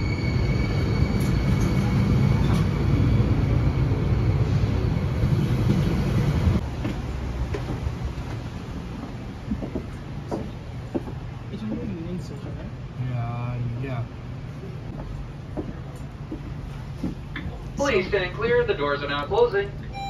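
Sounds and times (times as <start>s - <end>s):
hum inside train coach: 0.0s - 20.0s
train rumble: 0.0s - 20.0s.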